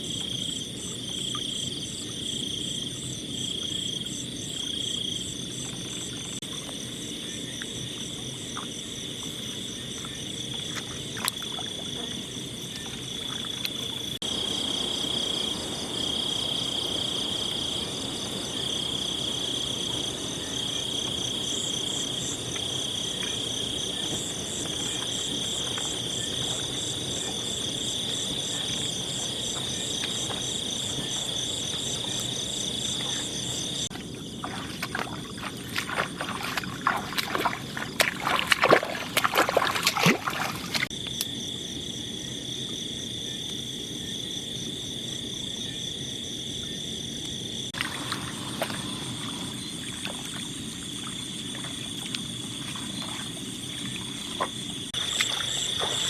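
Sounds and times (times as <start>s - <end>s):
shrill insect trill: 0.0s - 56.0s.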